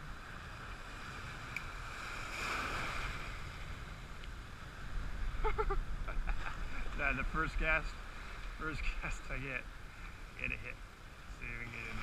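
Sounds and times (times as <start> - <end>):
sea surf washing around rocks: 0.0 - 12.0
wind rumbling on microphone: 0.0 - 12.0.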